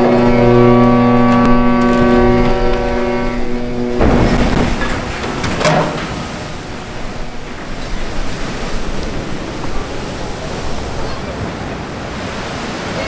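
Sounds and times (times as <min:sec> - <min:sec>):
water rushing and crashing: 0:00.0 - 0:13.0.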